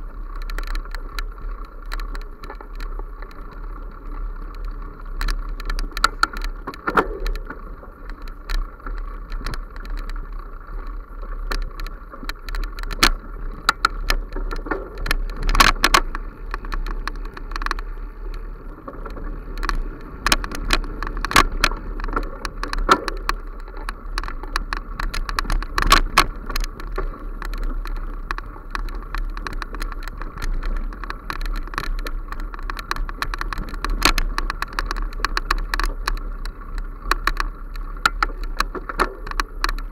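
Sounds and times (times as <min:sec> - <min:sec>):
bicycle frame rattling: 0:00.0 - 0:39.9
bicycle on dirt trail: 0:00.0 - 0:39.9.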